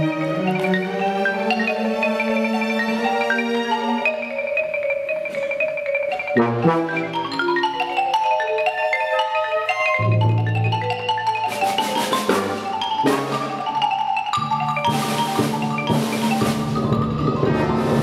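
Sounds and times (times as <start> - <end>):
low orchestral notes: 0.0 - 18.0
marimba fast runs: 0.0 - 18.0.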